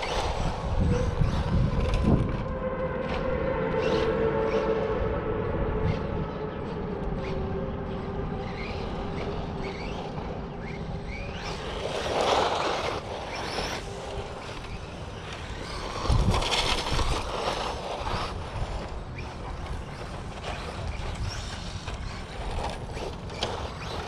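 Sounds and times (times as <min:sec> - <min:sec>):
electric motor whining: 0:00.0 - 0:24.0
rushes of noise: 0:00.0 - 0:24.0.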